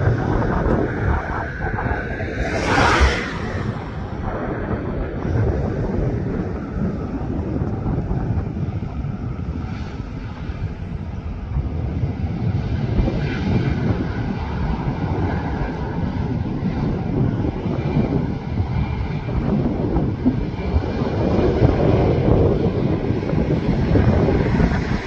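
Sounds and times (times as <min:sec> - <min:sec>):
jet engines rumbling roar: 0:00.0 - 0:25.0.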